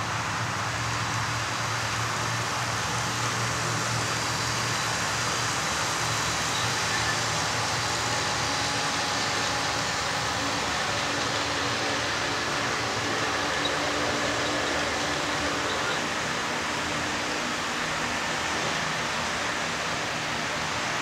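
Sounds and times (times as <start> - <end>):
model train motors whirring: 0.2 - 21.0
metal wheels rolling on track: 1.9 - 19.4.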